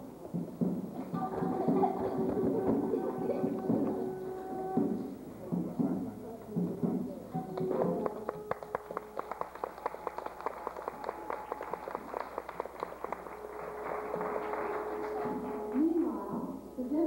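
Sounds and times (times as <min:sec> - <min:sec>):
steady held note: 0:02.2 - 0:16.8.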